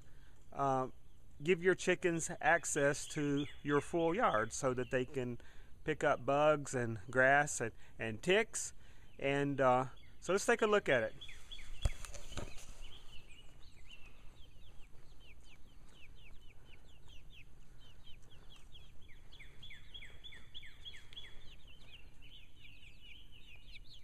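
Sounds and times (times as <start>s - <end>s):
chicks peeping: 0.3s - 24.0s.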